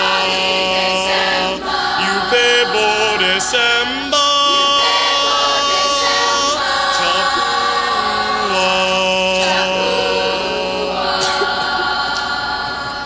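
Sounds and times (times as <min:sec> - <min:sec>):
vocal group singing a cappella: 0:00.0 - 0:13.0.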